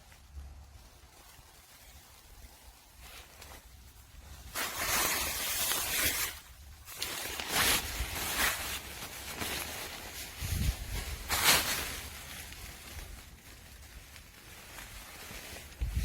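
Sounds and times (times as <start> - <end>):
tent fabric rustling: 0.0 - 16.0.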